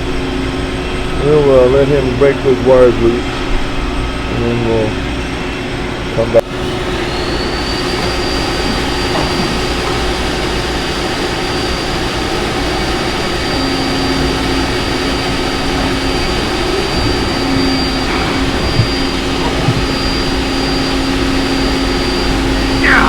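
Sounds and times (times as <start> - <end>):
industrial machinery high whine: 0.0 - 23.0
machinery low hum: 0.0 - 23.0.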